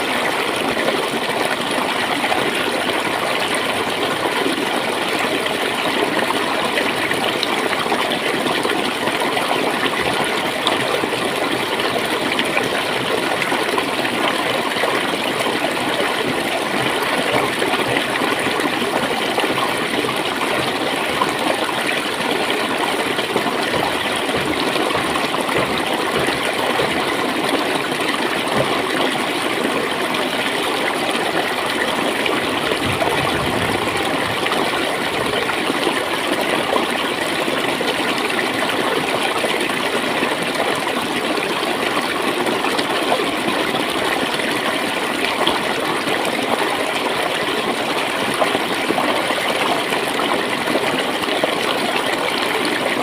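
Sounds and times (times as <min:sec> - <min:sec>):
stream water gurgling over stones: 0:00.0 - 0:53.0.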